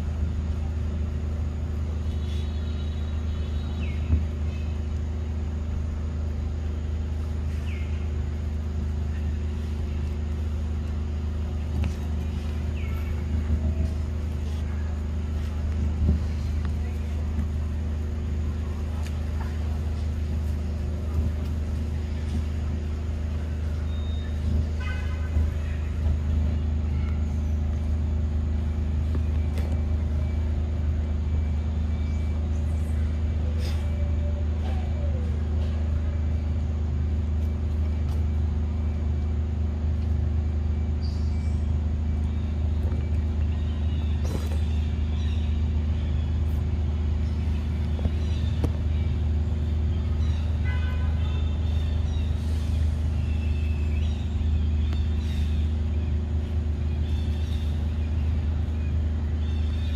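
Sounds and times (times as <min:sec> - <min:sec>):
low motor hum with tones: 0:00.0 - 0:59.9.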